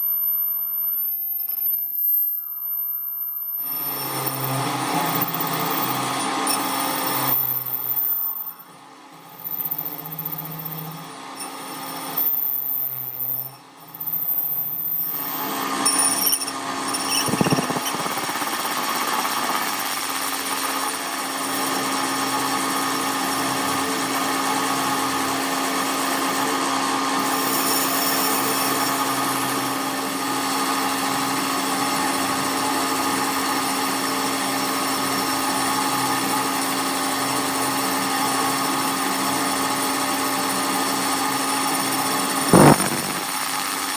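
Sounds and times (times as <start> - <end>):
power tool running: 3.5 - 43.9.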